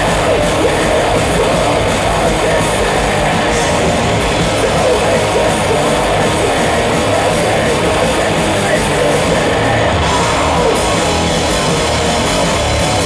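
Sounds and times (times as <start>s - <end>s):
live heavy metal band: 0.0s - 13.0s.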